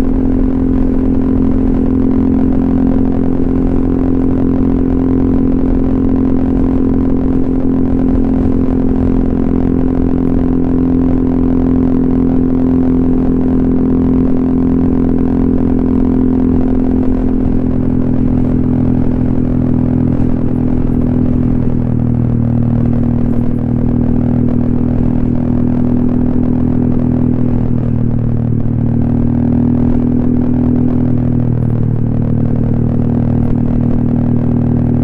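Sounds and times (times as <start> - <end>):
scooter engine running: 0.0 - 35.0.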